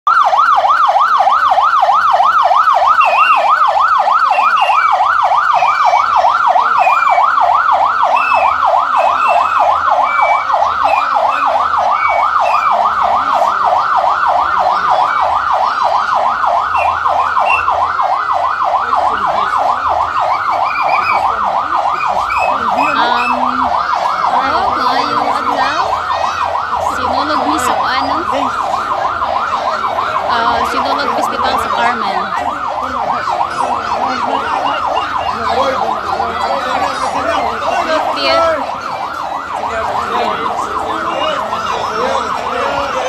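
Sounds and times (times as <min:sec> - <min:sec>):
police siren yelping: 0:00.0 - 0:43.0.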